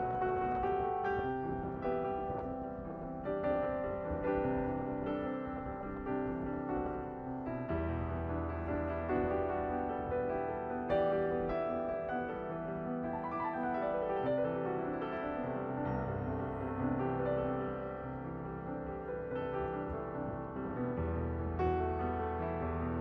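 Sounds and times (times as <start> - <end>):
gentle piano piece: 0.0 - 23.0.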